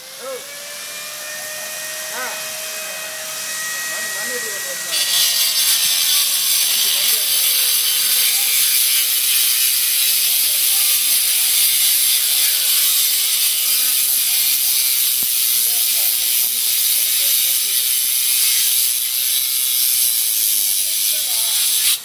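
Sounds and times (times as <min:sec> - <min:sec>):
angle grinder grinding stone: 0:00.1 - 0:22.0.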